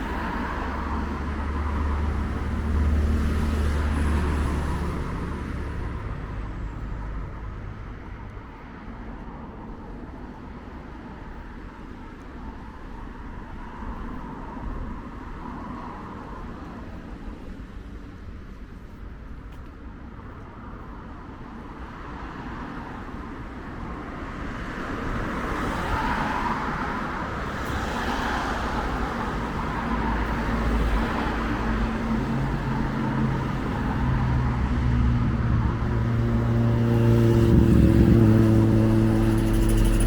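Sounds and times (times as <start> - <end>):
vehicle engine hum: 0.0 - 21.9, 25.0 - 40.0
road noise: 0.0 - 40.0.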